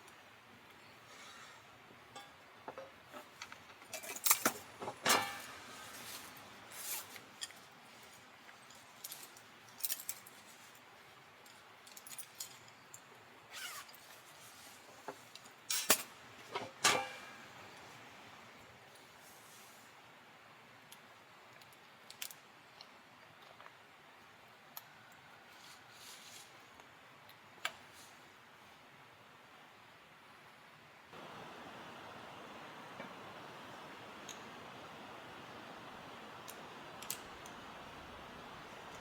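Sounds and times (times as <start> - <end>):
faint background hiss: 0.0 - 39.0.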